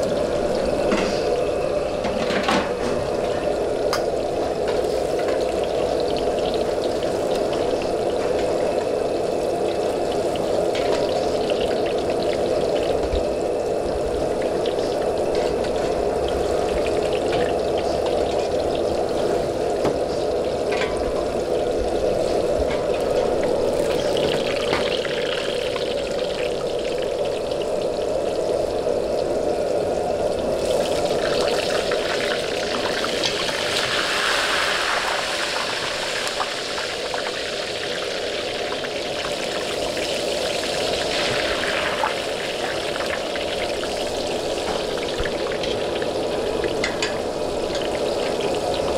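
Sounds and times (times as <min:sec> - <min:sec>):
deep-frying sizzle: 0:00.0 - 0:48.9.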